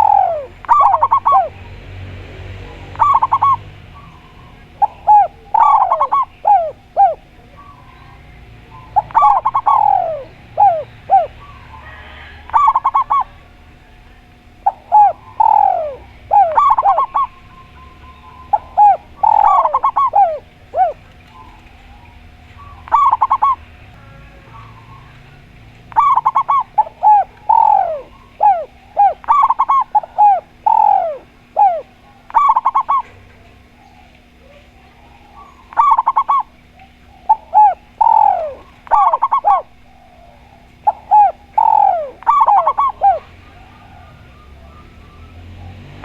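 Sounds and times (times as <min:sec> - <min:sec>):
doves cooing: 0:00.0 - 0:46.0.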